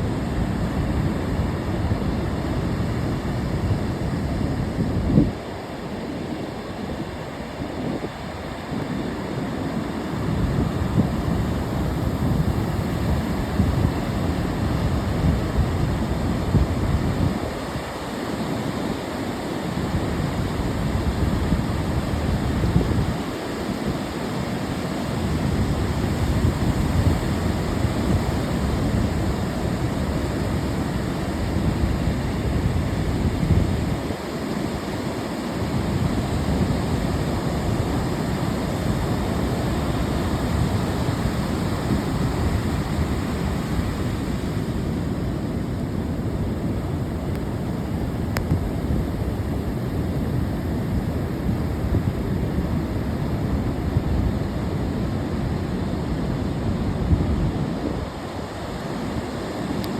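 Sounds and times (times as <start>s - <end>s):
ocean surf washing: 0.0s - 59.9s
wind rumble on microphone: 0.0s - 59.9s.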